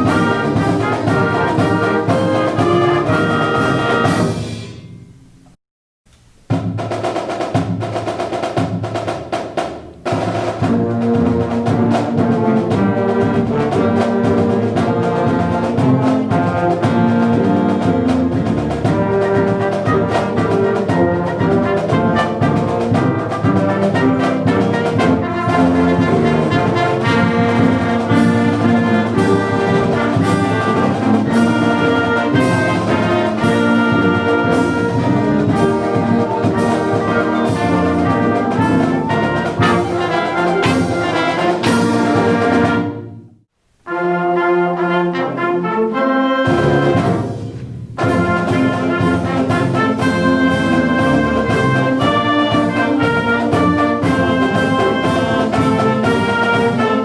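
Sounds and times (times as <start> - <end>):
brass-led band music: 0.0 - 5.2, 6.7 - 57.0.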